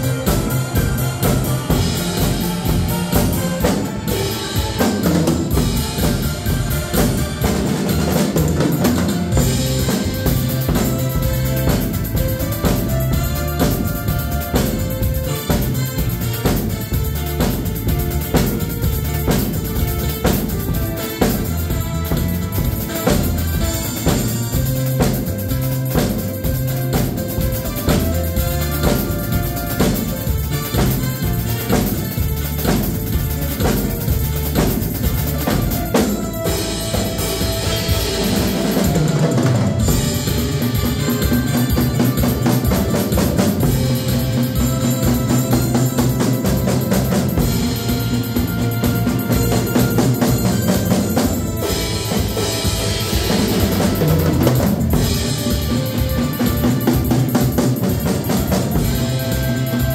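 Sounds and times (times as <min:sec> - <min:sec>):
drum kit playing a steady beat: 0:00.0 - 0:59.9
pop-rock backing track: 0:00.0 - 0:59.9.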